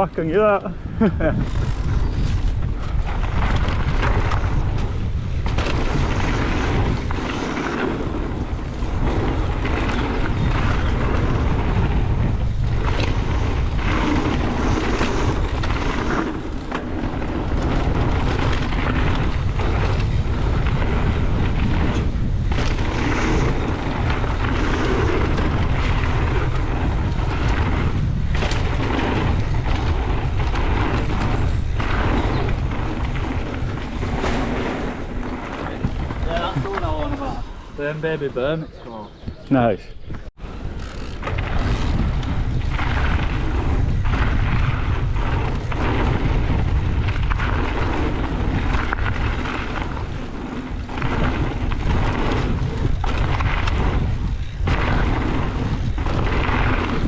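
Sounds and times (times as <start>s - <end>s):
tyres rushing on dirt trail: 0.0s - 39.2s, 39.8s - 57.0s
wind buffeting microphone: 0.0s - 57.0s.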